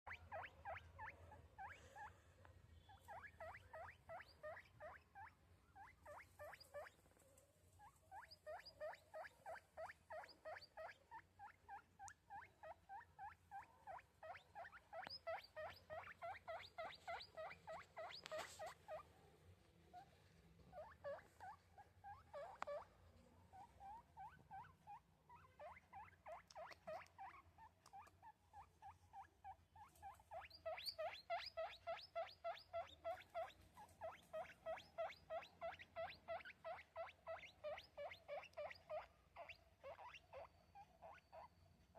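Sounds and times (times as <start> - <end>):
guinea pig squeaking: 0.0 - 19.2, 19.9 - 41.9.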